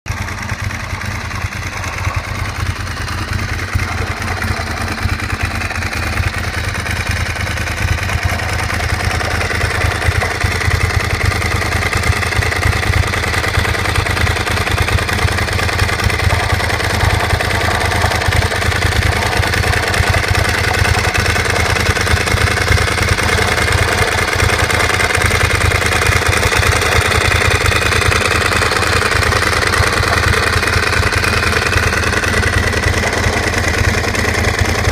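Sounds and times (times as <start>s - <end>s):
motorcycle engine idling: 0.0s - 34.9s
odd engine noise: 0.0s - 34.9s.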